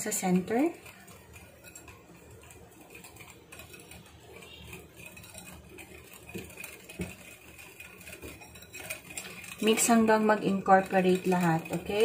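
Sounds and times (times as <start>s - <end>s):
whisk scraping glass bowl: 0.0s - 12.0s.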